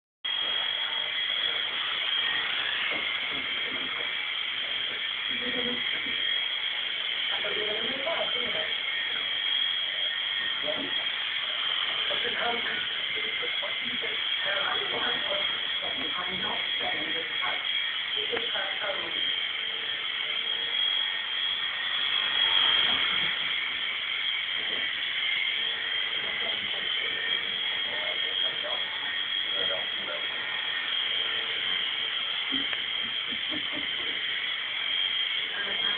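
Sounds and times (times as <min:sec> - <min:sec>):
toy helicopter motor whine: 0:00.3 - 0:35.9.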